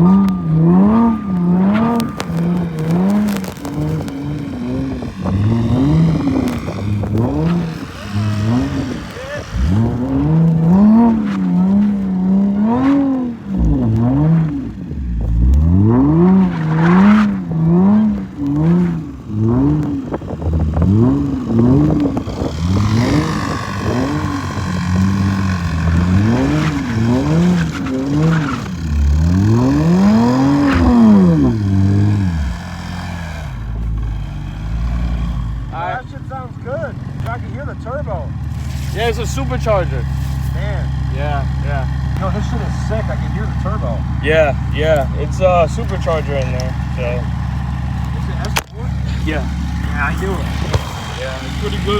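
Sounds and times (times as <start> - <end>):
car engine revving: 0.0 - 51.9
supercharger whine: 0.0 - 51.9.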